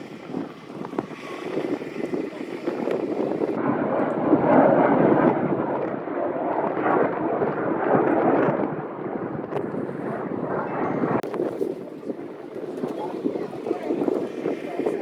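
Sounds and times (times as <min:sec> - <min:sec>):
jet roaring overhead: 0:00.0 - 0:15.0.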